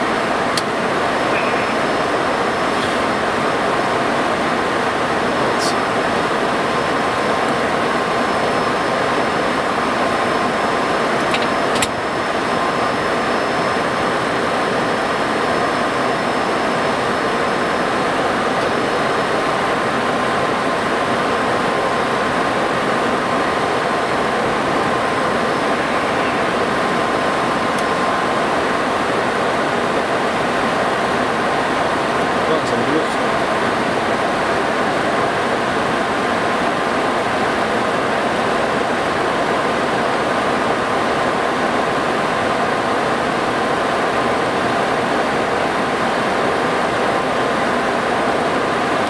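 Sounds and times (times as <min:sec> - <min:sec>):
airliner cockpit air and engine rush: 0:00.0 - 0:49.0
faint steady whine: 0:00.0 - 0:49.0.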